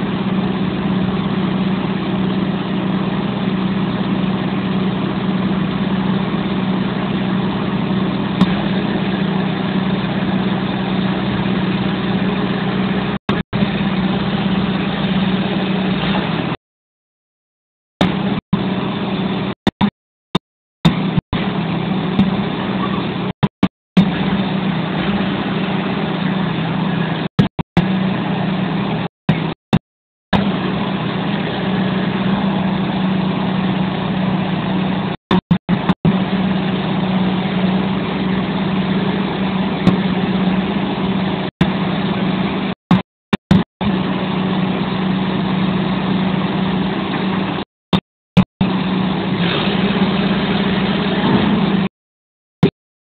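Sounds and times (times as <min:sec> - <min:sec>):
diesel engine running: 0:00.0 - 0:16.6, 0:18.0 - 0:51.9.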